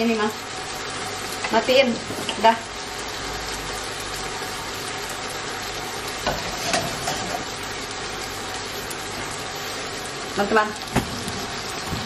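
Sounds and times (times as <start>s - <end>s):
chicken sizzling in frying pans: 0.0s - 12.0s.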